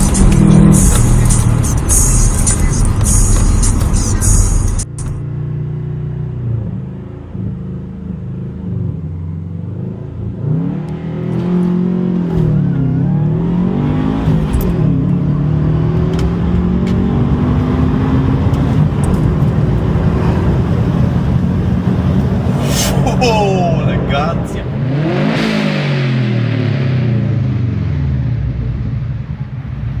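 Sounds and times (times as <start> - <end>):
car engine revving: 0.0 - 5.3, 6.3 - 29.6.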